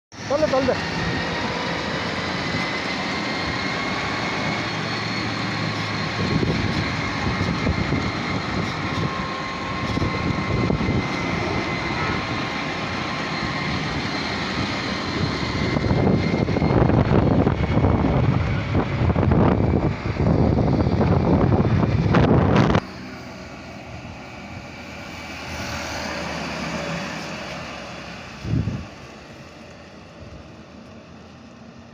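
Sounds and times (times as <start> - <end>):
loud rough rushing noise: 0.1 - 31.9
electric tractor motor whine: 0.2 - 31.9.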